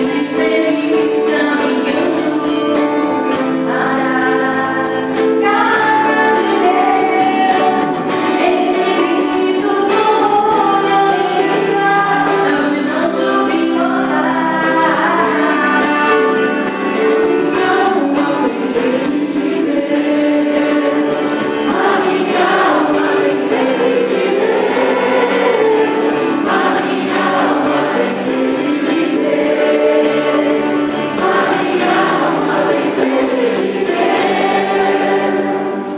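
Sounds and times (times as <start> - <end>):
church choir singing: 0.0 - 35.9.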